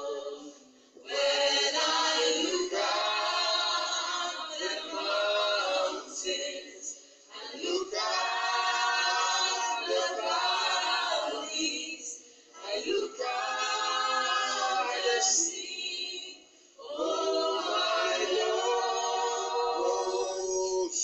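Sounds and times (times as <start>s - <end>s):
group of people singing: 0.0s - 21.0s.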